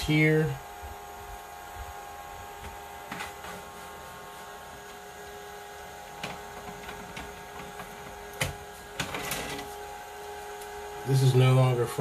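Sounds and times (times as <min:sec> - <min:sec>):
small fan humming: 0:00.0 - 0:12.0.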